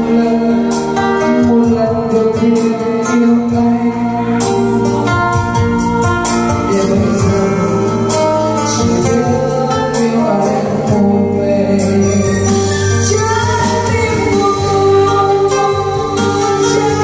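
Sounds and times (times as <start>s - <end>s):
acoustic guitar: 0.0s - 17.0s
woman singing into microphone: 0.0s - 17.0s.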